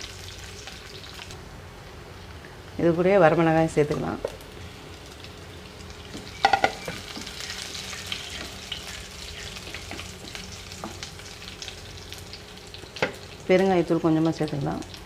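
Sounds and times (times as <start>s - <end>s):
garlic sizzling in hot oil: 0.0s - 1.4s, 2.8s - 15.0s.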